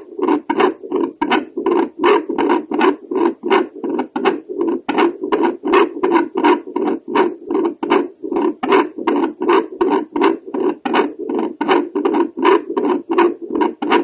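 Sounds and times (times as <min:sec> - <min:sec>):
doppler heartbeat whooshing pulses: 0:00.0 - 0:14.0.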